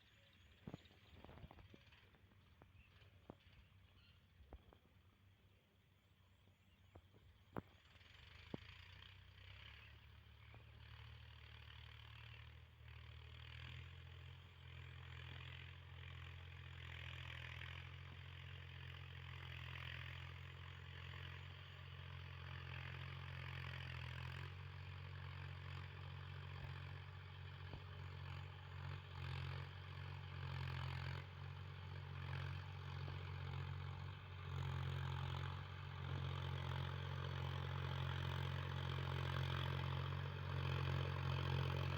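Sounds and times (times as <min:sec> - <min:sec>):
tractor diesel engine running: 0:06.5 - 0:41.9.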